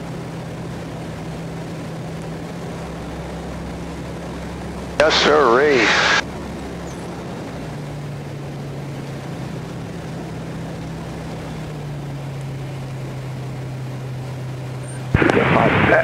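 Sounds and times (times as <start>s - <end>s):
plane engine and propeller drone: 0.0s - 16.0s.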